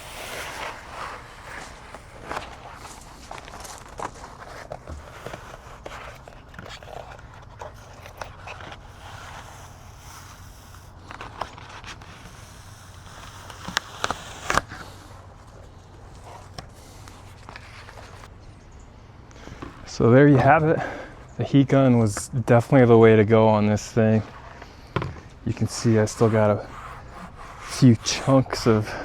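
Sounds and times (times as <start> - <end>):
foam crackling and clicking: 0.0 - 18.3, 24.0 - 29.0
faint steady hum: 0.0 - 29.0.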